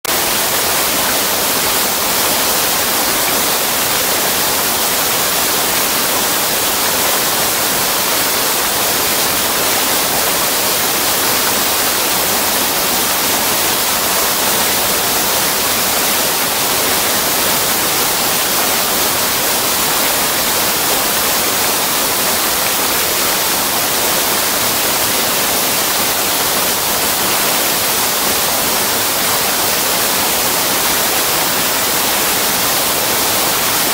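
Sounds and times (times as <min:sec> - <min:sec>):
water rushing over weir: 0:00.0 - 0:33.9.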